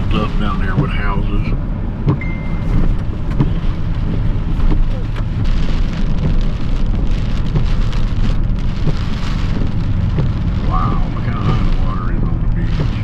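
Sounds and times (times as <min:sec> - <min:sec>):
car driving on wet road: 0:00.0 - 0:13.0
rain and spray hitting car: 0:00.0 - 0:13.0.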